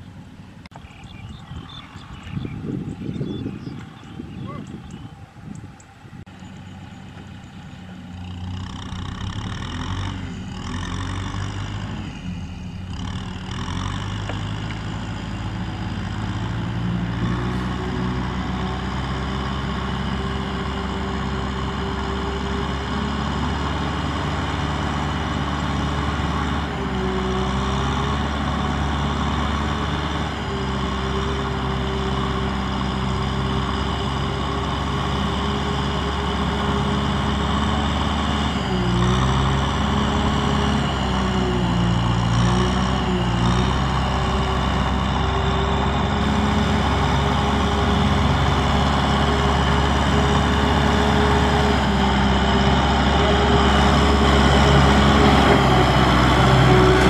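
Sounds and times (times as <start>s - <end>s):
tractor diesel engine approaching: 0.0s - 57.0s.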